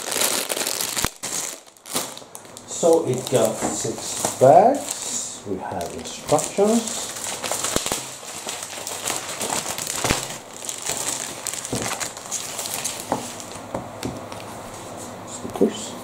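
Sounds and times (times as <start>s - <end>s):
packaging and paper rustling: 0.0s - 15.0s.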